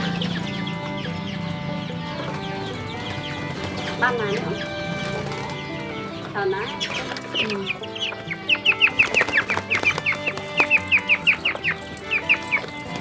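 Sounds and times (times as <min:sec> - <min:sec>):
background music: 0:00.0 - 0:13.0
quail chirping: 0:00.0 - 0:13.0.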